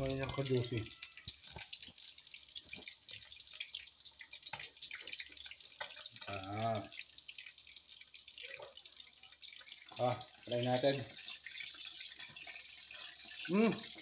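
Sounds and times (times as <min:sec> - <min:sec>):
oil crackling in wok: 0:00.0 - 0:14.0.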